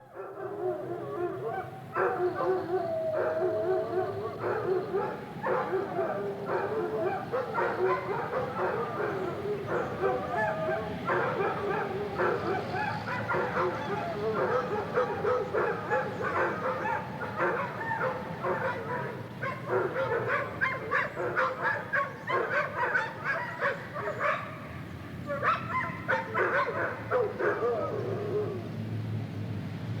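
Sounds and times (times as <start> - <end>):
wolves yipping and whining: 0.1 - 28.8.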